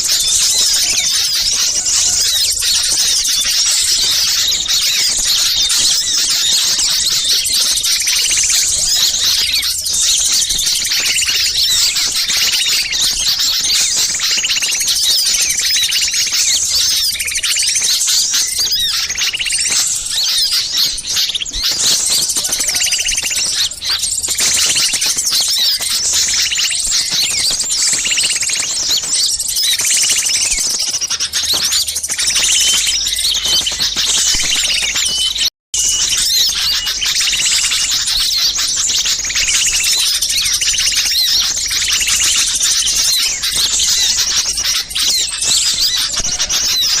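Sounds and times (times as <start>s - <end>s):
lower bird call: 0.0s - 47.0s
songbirds chirping and twittering: 0.0s - 47.0s.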